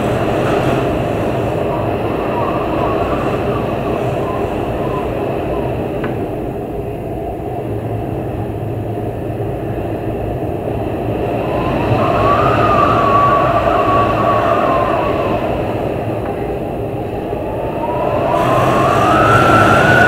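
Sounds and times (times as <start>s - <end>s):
storm wind blowing hard: 0.0s - 20.0s
wind whistling tone: 0.0s - 20.0s.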